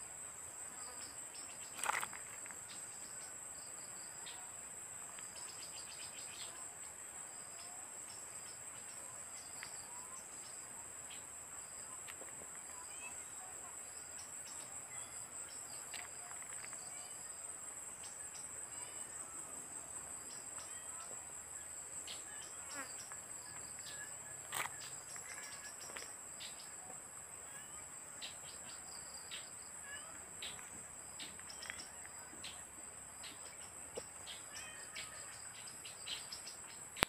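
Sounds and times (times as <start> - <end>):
insect chorus: 0.0 - 37.0.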